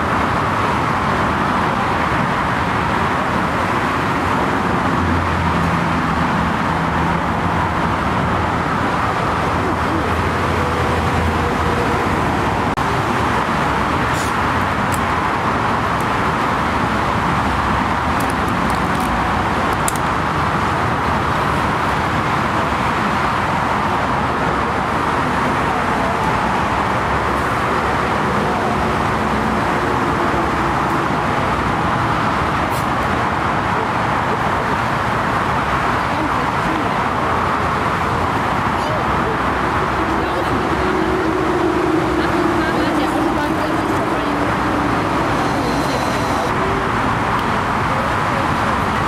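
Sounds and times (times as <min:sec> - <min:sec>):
distant engines roaring: 0:00.0 - 0:49.0.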